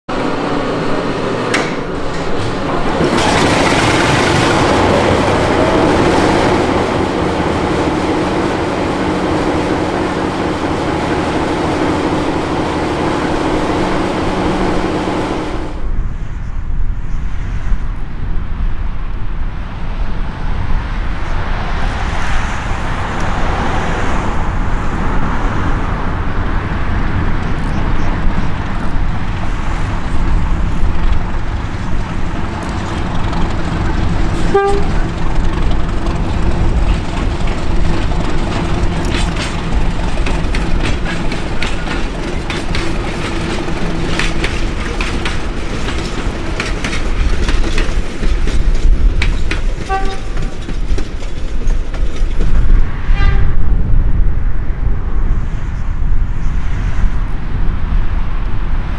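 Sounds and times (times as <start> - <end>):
diesel locomotive engine running: 0.0 - 16.6, 21.0 - 58.6.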